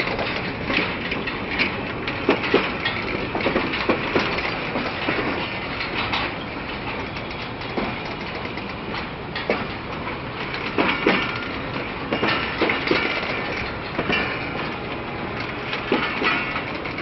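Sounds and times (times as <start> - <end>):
train wheels knocking over rail joints: 0.0 - 17.0.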